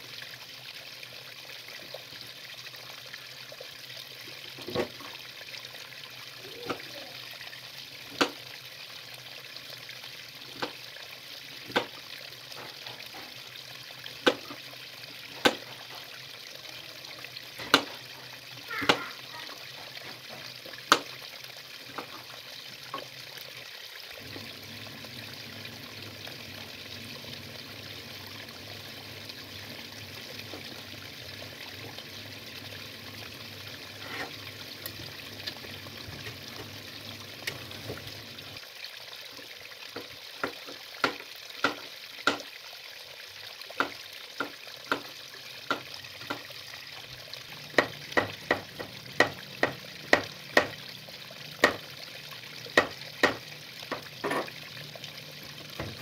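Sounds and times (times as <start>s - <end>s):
water boiling in a pot: 0.0s - 56.0s.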